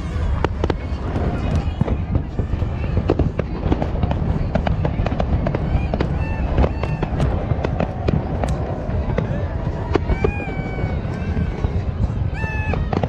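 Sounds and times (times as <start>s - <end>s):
fireworks bangs and crackles: 0.0s - 13.0s
low rumble of distant bursts: 0.0s - 13.0s.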